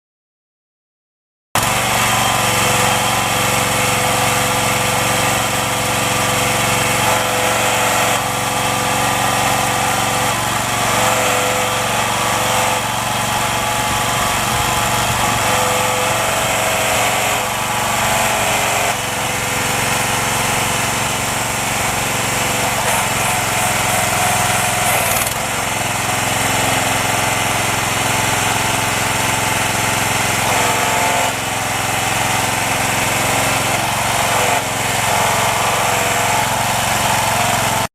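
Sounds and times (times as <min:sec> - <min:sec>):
small excavator engine running: 0:01.6 - 0:37.9.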